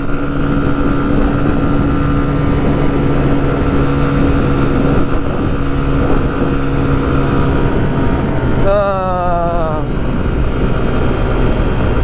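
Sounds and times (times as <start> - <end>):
motorcycle engine at full throttle: 0.0 - 12.0.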